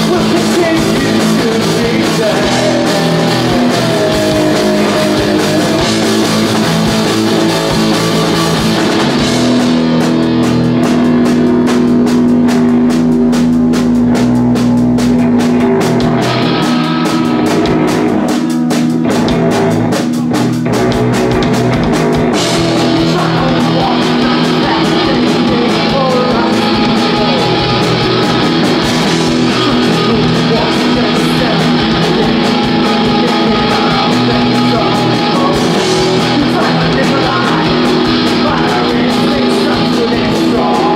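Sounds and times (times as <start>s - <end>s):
drum kit: 0.0s - 40.9s
electric bass: 0.0s - 40.9s
electric guitar: 0.0s - 40.9s.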